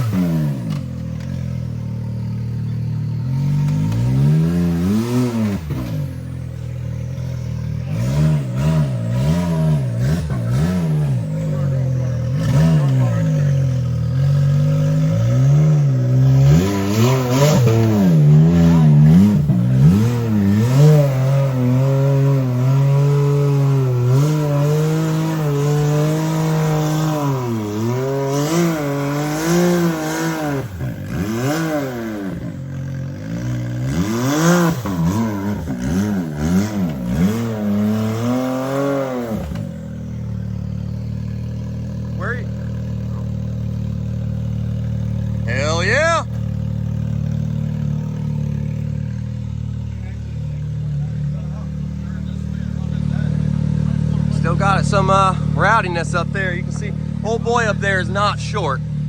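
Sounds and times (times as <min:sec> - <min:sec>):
engine revving in bursts: 0:00.0 - 0:59.0.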